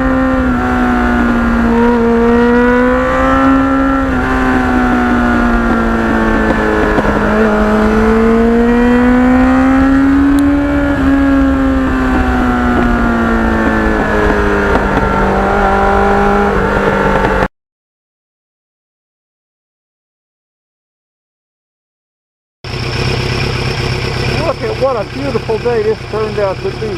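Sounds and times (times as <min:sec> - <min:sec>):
motorcycle engine revving: 0:00.0 - 0:17.5, 0:22.7 - 0:26.9
wind and road noise: 0:00.0 - 0:17.5, 0:22.7 - 0:26.9.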